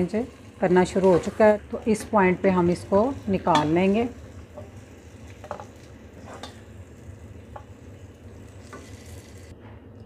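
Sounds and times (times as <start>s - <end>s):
hot oil sizzling: 0.0s - 9.5s.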